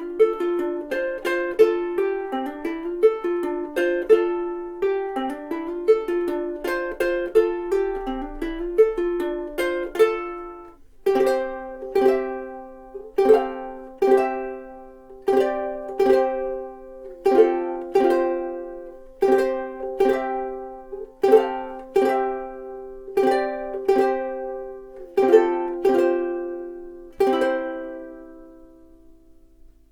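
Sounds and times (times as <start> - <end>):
ukulele playing: 0.0 - 29.9.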